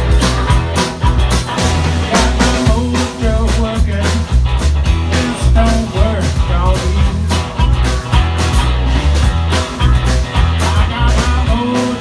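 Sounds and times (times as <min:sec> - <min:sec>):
rock and roll band playing: 0:00.0 - 0:12.0.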